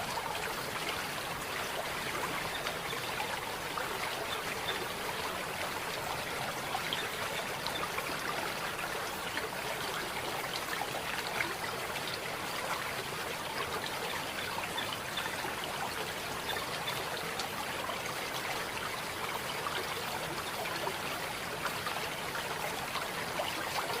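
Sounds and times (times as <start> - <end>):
stream trickling over stones: 0.0 - 24.0.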